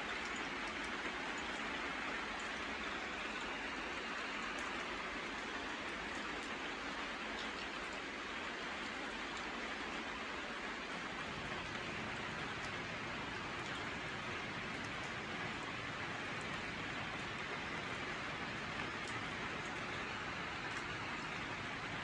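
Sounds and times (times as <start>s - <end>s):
raindrop ticks: 0.0s - 22.0s
steady rain falling: 0.0s - 22.0s.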